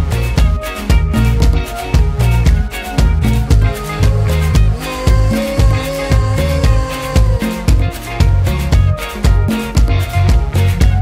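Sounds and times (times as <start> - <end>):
funk-pop background music: 0.0 - 11.0.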